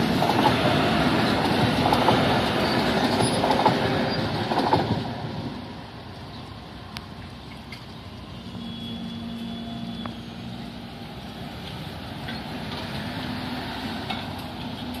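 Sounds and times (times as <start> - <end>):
car pulling away over tracks: 0.0 - 15.0.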